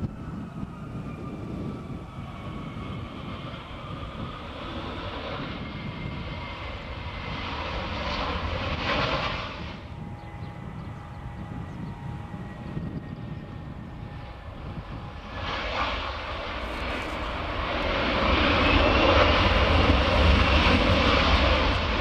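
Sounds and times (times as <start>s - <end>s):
jet engine rush: 0.0s - 22.0s
jet turbine whine: 0.0s - 22.0s.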